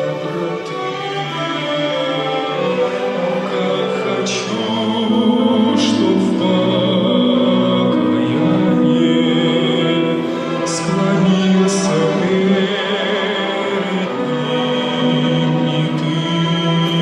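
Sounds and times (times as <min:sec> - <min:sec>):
chamber orchestra playing hymn: 0:00.0 - 0:17.0.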